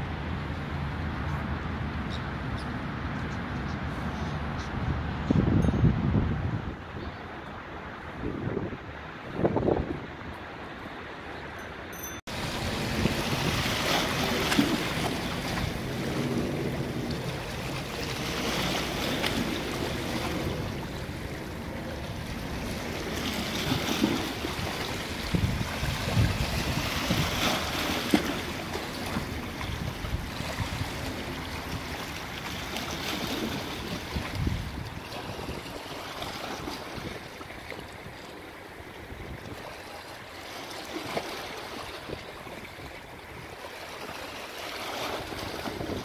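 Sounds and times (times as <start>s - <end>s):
wind gusting on microphone: 0.0s - 38.2s, 45.0s - 46.0s
sea waves washing on shore: 6.3s - 46.0s.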